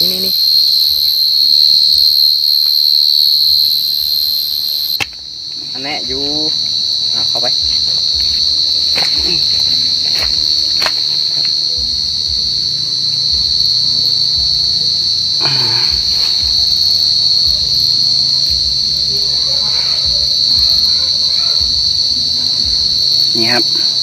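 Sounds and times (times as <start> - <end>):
cricket high-pitched trill: 0.0 - 24.0.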